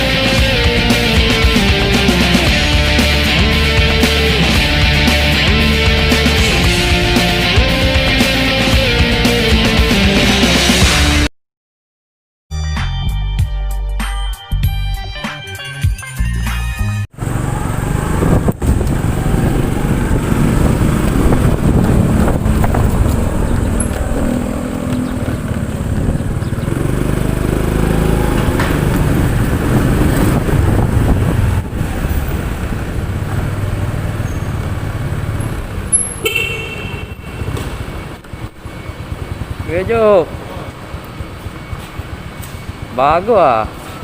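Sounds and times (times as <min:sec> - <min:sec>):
motorcycle engine and road noise: 0:00.0 - 0:11.2, 0:17.1 - 0:44.0.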